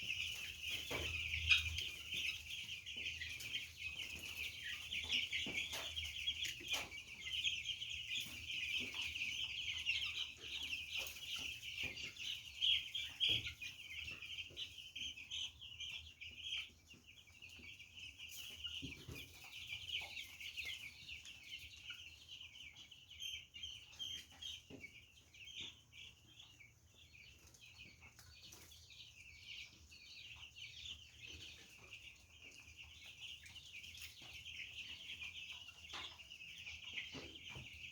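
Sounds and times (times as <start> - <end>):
chicks peeping: 0.0 - 37.9.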